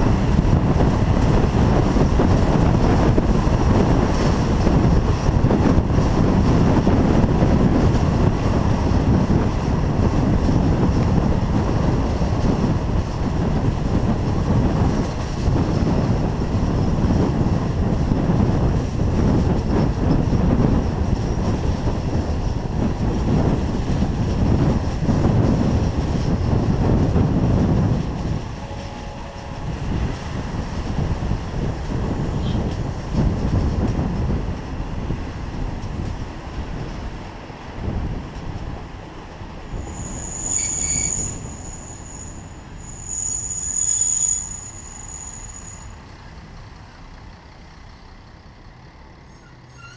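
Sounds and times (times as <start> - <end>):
train wind rush: 0.0 - 49.9
wheel on rail rumble: 0.0 - 49.9.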